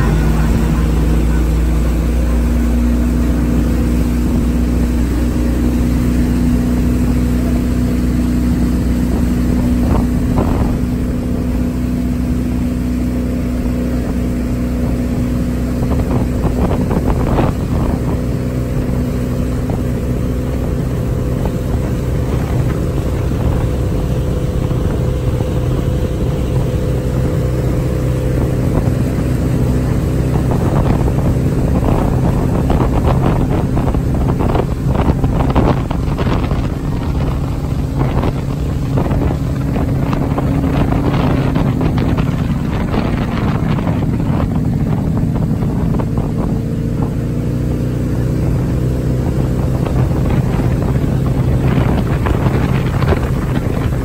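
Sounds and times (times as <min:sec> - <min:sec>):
motorboat engine running: 0:00.0 - 0:54.0
water rushing in wake: 0:00.0 - 0:54.0
wind on microphone: 0:00.0 - 0:54.0.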